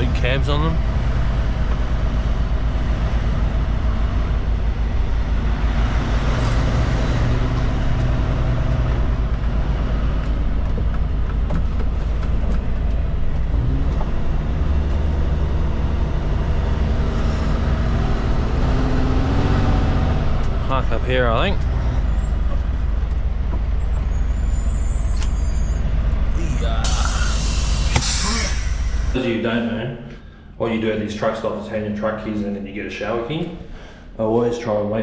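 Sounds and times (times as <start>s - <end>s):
diesel truck engine drone: 0.0s - 31.9s.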